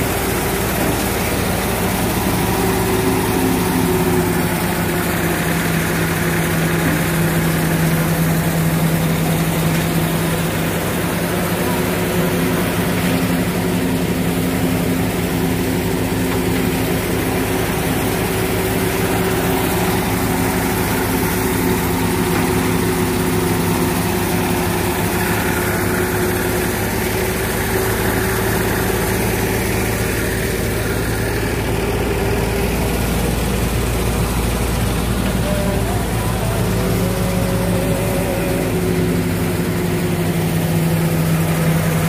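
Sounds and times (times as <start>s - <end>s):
diesel tractor engine under load: 0.0s - 42.0s
threshing machine churning: 0.0s - 42.0s.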